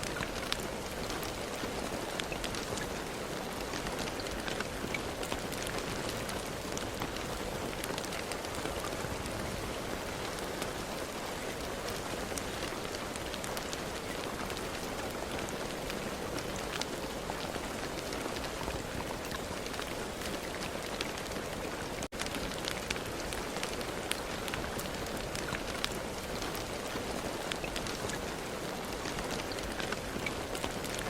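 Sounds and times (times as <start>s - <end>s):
raindrops ticking: 0.0s - 31.0s
steady rain falling: 0.0s - 31.0s.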